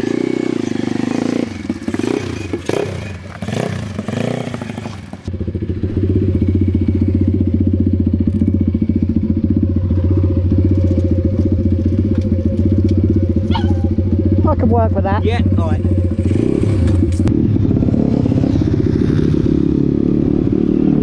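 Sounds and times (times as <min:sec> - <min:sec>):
motorbike engine idling: 0:00.0 - 0:17.2
pit bike engines revving: 0:00.0 - 0:21.0.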